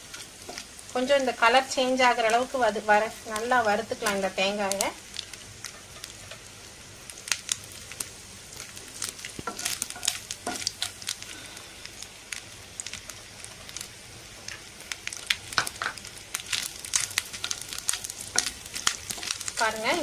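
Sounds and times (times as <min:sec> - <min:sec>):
coconut sizzling in pan: 0:00.0 - 0:20.0.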